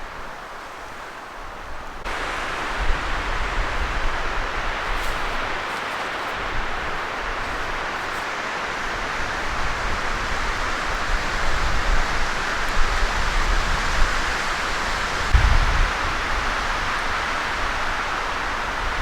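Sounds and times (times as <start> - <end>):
strong wind hissing: 1.5 - 19.0
wind buffeting microphone: 1.7 - 5.7, 6.3 - 19.0.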